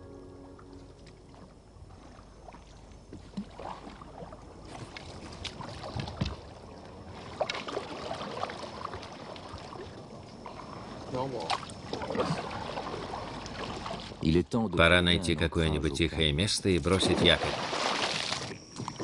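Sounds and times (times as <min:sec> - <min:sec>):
paddle splashing water: 0:00.4 - 0:14.3, 0:16.9 - 0:19.0.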